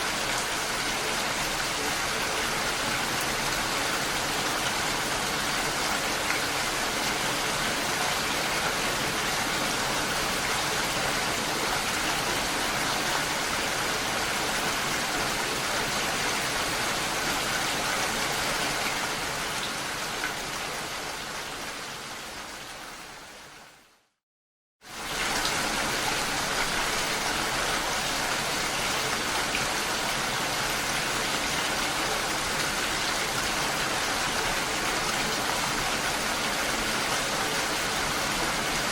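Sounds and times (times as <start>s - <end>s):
dense rain falling: 0.0s - 23.9s, 24.8s - 38.9s.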